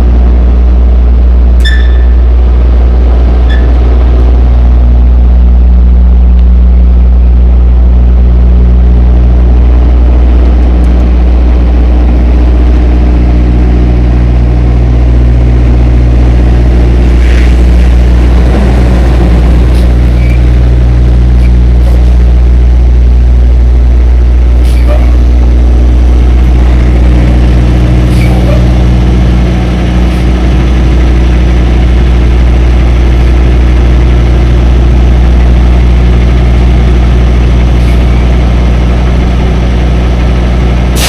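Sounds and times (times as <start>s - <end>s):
diesel truck engine drone: 0.0s - 41.0s.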